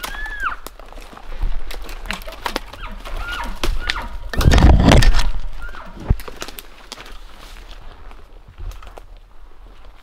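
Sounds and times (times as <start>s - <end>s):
footsteps through undergrowth: 0.0s - 10.0s
twigs crackling underfoot: 0.0s - 10.0s.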